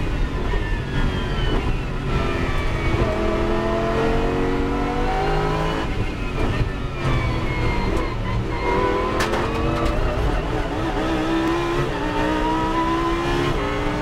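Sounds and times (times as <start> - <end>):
race car engine revving: 0.9 - 14.0.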